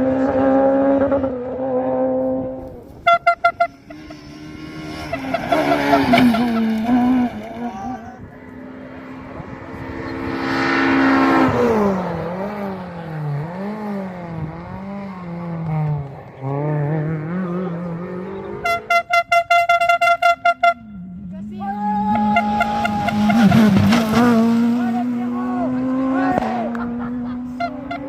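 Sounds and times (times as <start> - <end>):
rally car engine at full throttle: 0.0 - 28.0.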